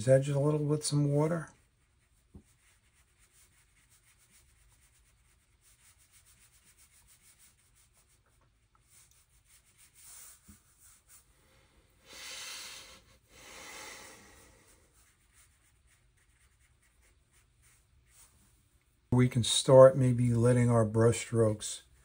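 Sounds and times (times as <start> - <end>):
brush swishing on paper: 0.0 - 11.4, 14.2 - 22.0.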